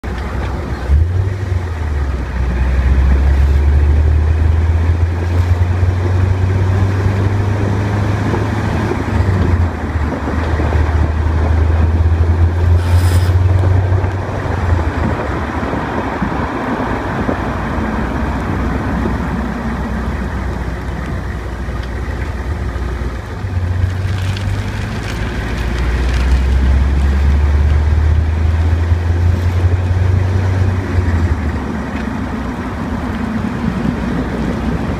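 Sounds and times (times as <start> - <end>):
car engine running: 0.0 - 34.9
engine grinding noise: 0.0 - 34.9.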